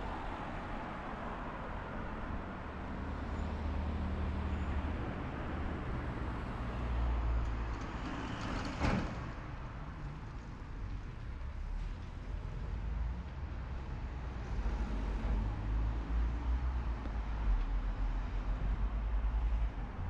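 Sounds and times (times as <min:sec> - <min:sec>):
cars passing on a street: 0:00.0 - 0:20.0.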